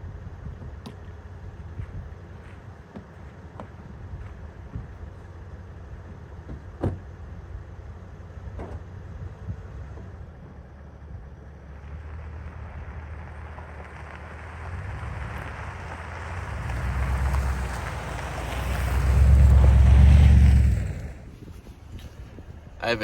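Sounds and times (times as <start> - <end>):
vehicle driving rumble: 0.0 - 23.0.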